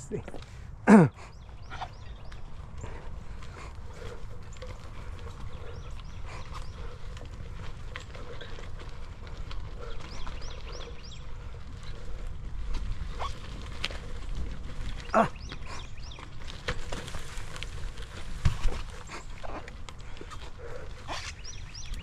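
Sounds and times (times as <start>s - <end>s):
bike clicks and rattles: 1.4s - 22.0s
bike rumbling over rocky trail: 1.9s - 22.0s.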